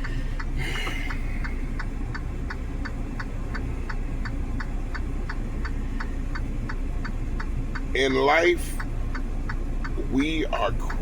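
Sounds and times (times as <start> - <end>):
evenly spaced ticking: 0.0 - 11.0
low steady rumble: 0.0 - 11.0.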